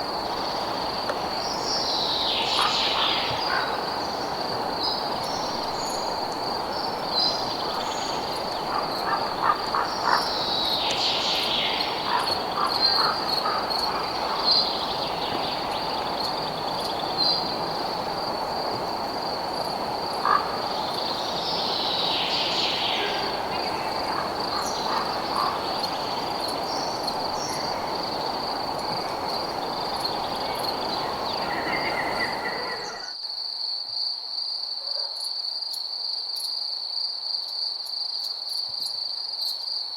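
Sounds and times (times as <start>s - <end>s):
frogs croaking: 0.0s - 33.2s.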